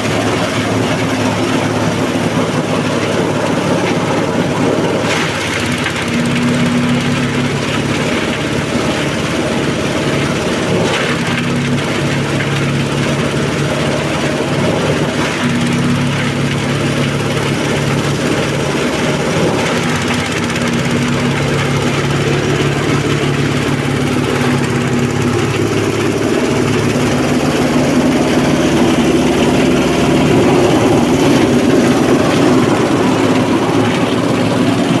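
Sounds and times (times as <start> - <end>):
diesel engine of a shredder: 0.0 - 35.0.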